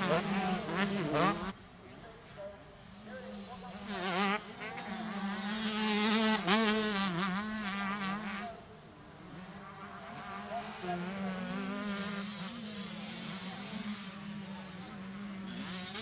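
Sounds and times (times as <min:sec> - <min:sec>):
motocross bikes racing: 0:00.0 - 0:16.0.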